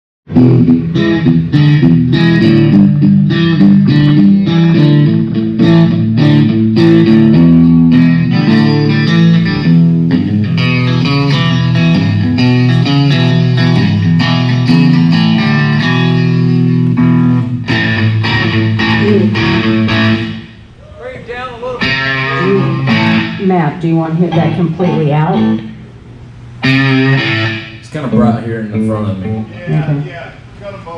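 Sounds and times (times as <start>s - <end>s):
amplified guitar notes and chords: 0.3s - 20.7s, 21.7s - 30.3s.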